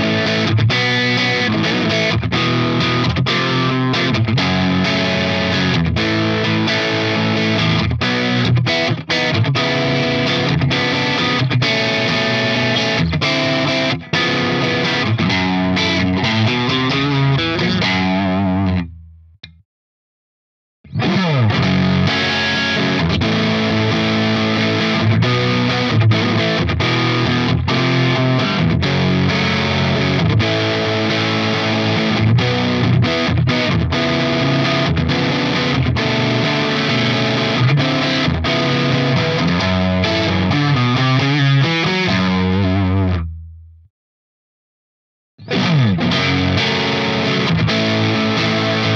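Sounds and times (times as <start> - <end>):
distorted electric guitar chords: 0.0 - 19.6, 20.8 - 43.9, 45.4 - 48.9.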